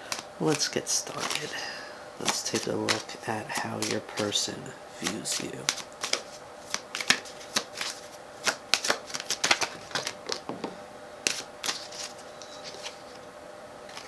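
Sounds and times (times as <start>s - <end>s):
cards being shuffled: 0.0s - 10.6s, 11.2s - 13.3s.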